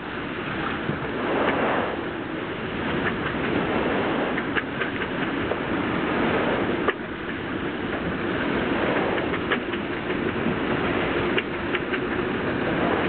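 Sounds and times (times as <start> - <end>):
strong wind on microphone: 0.0 - 13.0
water rushing along hull: 0.0 - 13.0.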